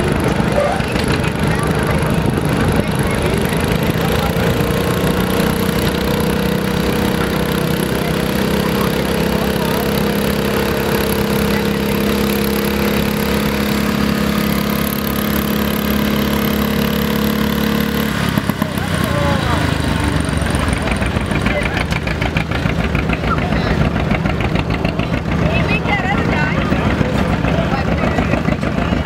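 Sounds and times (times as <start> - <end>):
tractor engine under load: 0.0 - 29.0.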